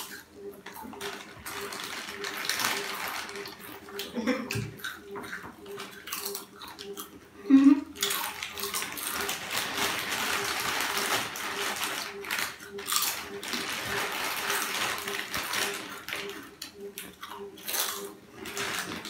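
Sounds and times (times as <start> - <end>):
chip packets crinkling: 0.0 - 4.2, 8.0 - 19.0
potato chips crunching: 0.0 - 7.2, 7.9 - 19.0.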